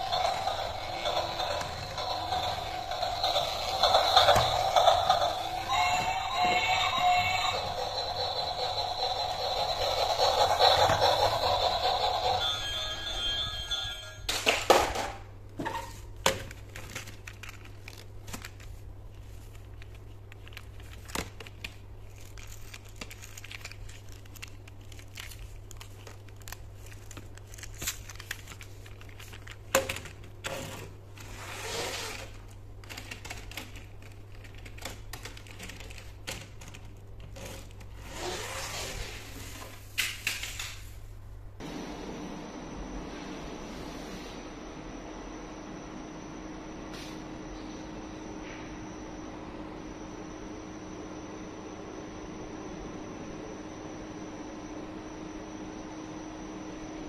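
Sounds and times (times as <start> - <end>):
steady low hum: 0.0 - 40.0, 40.6 - 57.0.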